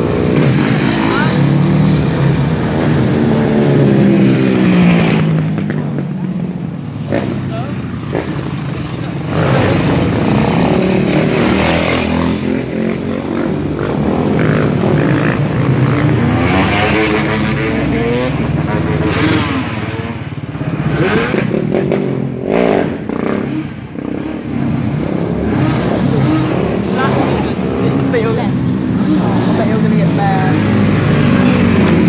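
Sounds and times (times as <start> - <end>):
motorbike engines revving: 0.0 - 32.0.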